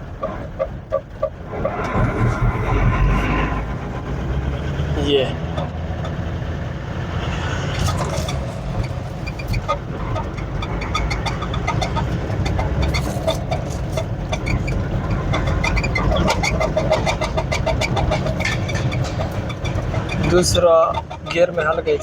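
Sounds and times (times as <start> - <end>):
diesel engine rumble: 0.0 - 22.0
engine ticking and knocking: 0.0 - 22.0.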